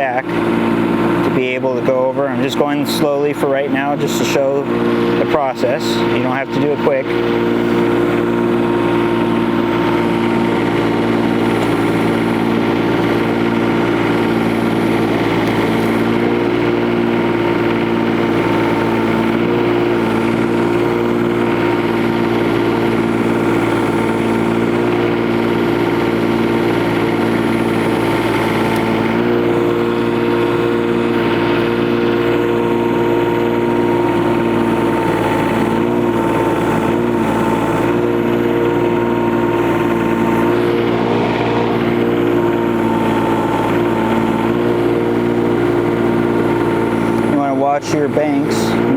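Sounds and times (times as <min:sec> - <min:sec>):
diesel engine running: 0:00.0 - 0:48.9
hydraulics working: 0:00.0 - 0:48.9.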